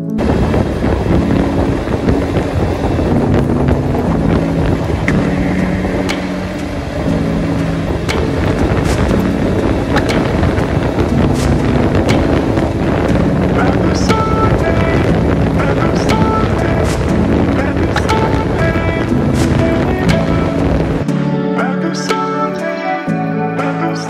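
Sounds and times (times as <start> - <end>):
wind rushing over microphone: 0.0 - 21.4
motorcycle engine running: 0.2 - 21.0.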